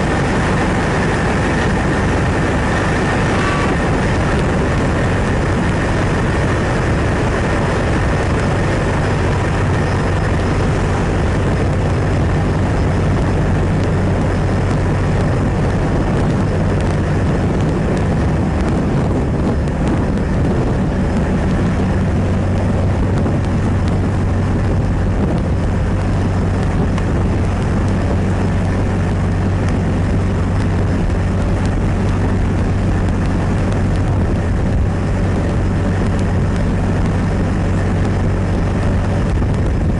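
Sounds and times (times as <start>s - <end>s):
ship engine drone: 0.0s - 39.9s.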